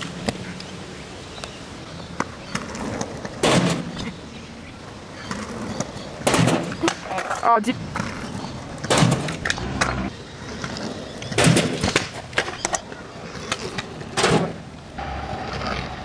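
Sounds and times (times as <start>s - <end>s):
scooter wheels rolling on pavement: 0.0s - 16.0s.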